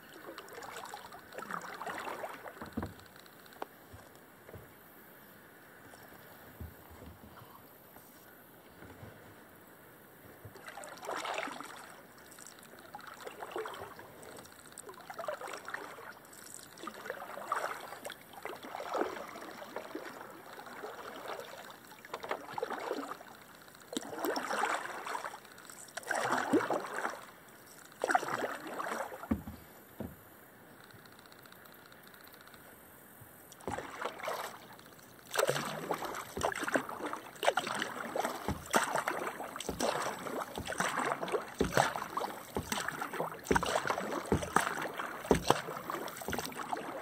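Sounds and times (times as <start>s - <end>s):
kayak paddle swishing in water: 0.0s - 5.1s, 10.3s - 30.4s, 33.5s - 47.0s.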